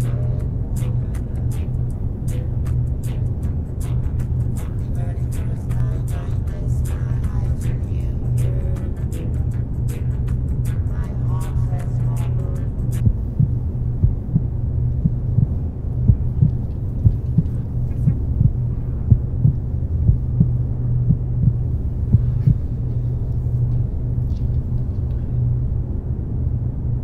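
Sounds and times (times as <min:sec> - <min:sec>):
soft low thumps: 0:00.0 - 0:25.8
steady low hum: 0:00.0 - 0:27.0.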